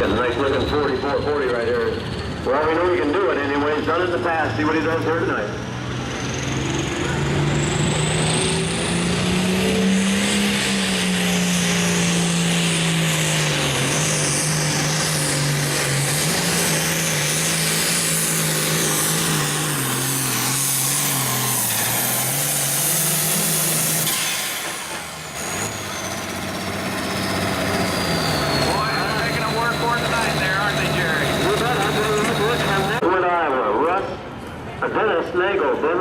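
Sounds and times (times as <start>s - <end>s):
tractor diesel engine at full throttle: 0.0s - 33.2s.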